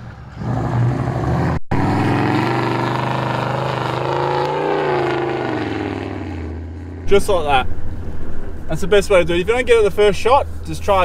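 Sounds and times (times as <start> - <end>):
engine pulling hard under load: 0.0 - 11.0.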